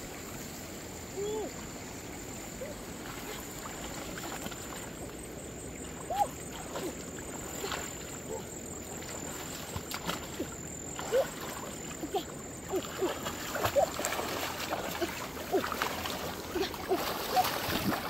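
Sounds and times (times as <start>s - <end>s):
muddy water sloshing and splashing: 1.4s - 18.0s
small plops and gurgles: 2.6s - 18.0s.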